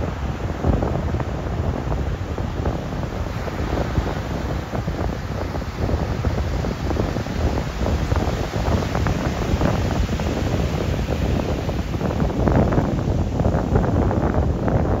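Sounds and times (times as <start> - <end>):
ocean surf breaking: 0.0 - 14.7
wind buffeting microphone: 0.0 - 15.0.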